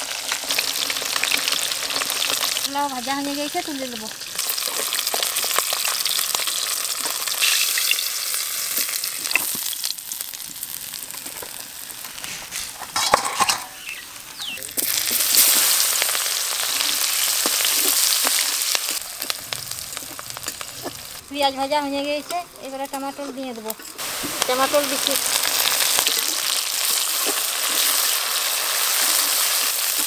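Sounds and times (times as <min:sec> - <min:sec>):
hot oil sizzling: 0:00.0 - 0:30.0.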